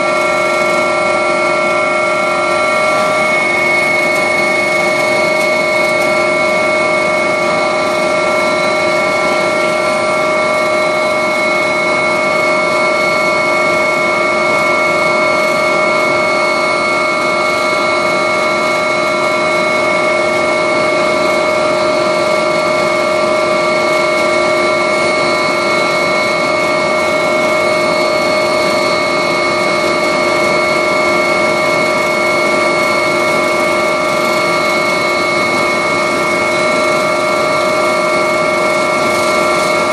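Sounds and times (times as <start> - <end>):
helicopter turbine and rotor whine: 0.0 - 39.9.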